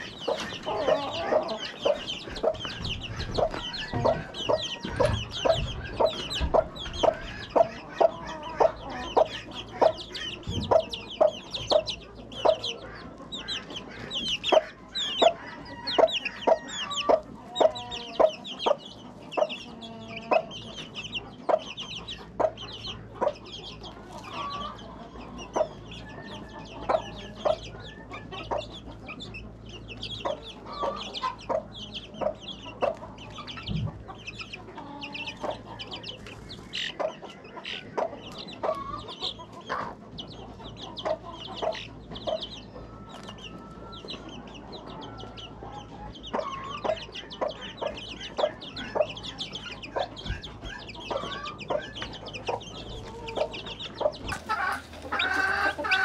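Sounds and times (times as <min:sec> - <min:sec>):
poultry chirping and peeping: 0:00.0 - 0:56.0
poultry clucking: 0:00.0 - 0:56.0.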